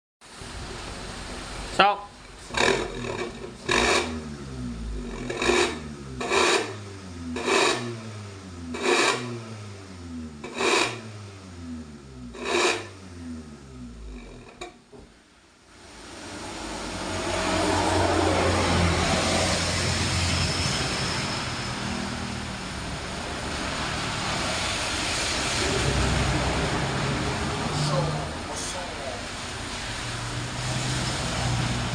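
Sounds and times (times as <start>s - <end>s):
car engine revving: 2.4s - 14.9s, 15.9s - 31.9s.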